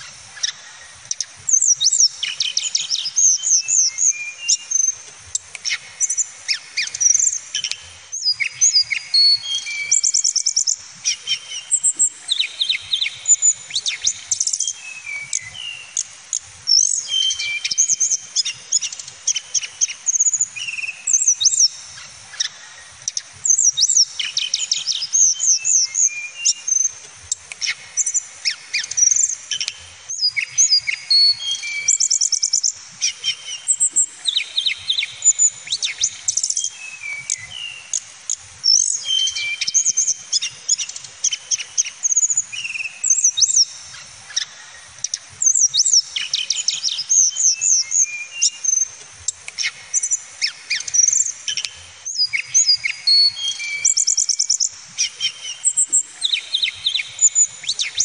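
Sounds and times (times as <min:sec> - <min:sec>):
flycatcher singing whistles and trills: 0:00.0 - 0:58.0.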